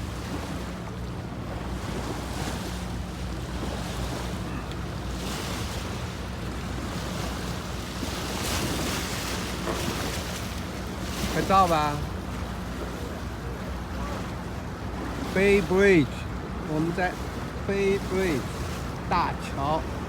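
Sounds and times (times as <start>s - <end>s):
wind and water rushing: 0.0s - 20.0s.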